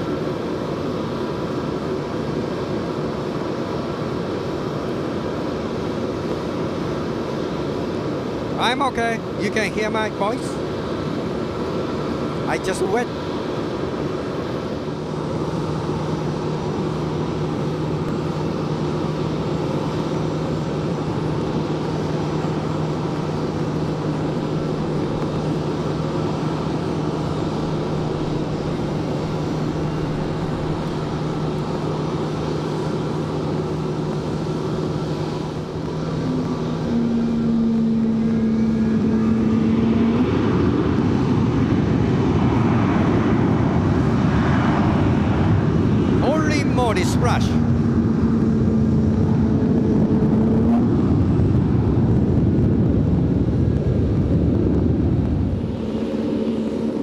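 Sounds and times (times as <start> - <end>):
jet engines humming: 0.0 - 57.0.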